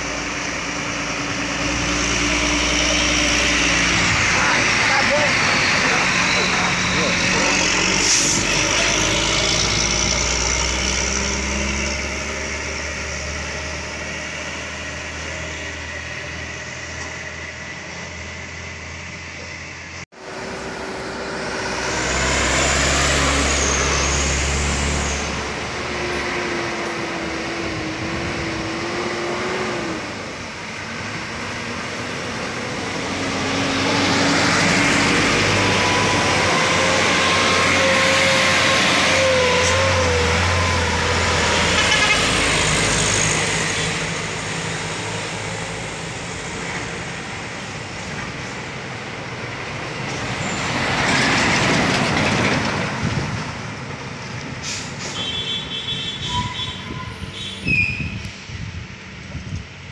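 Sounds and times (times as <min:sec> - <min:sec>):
truck diesel engines laboring: 0:00.0 - 0:59.9.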